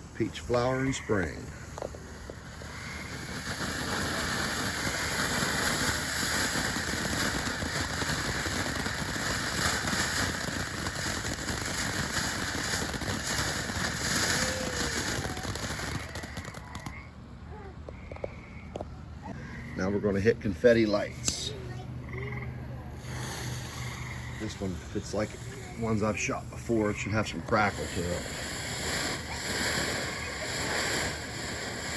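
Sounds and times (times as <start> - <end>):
firework fountain hissing: 0.0 - 18.2, 19.3 - 31.9.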